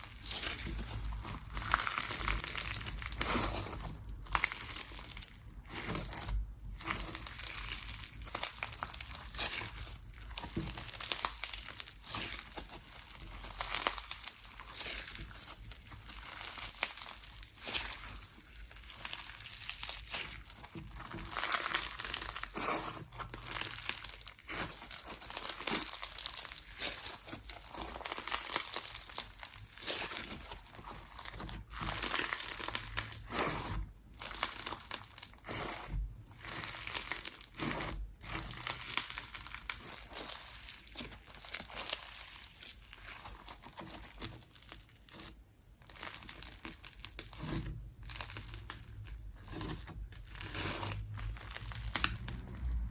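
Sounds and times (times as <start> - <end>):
hands squeezing slime: 0.0 - 52.9.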